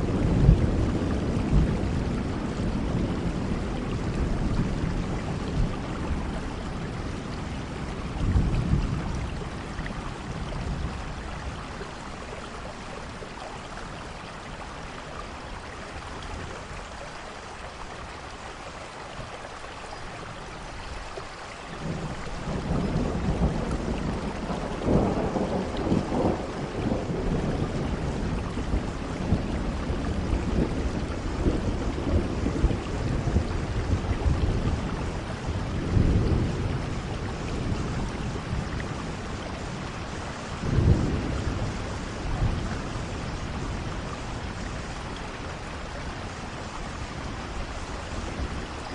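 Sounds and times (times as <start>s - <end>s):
thunder rumbling: 0.0s - 13.3s, 21.8s - 48.9s
steady rain: 0.0s - 48.9s.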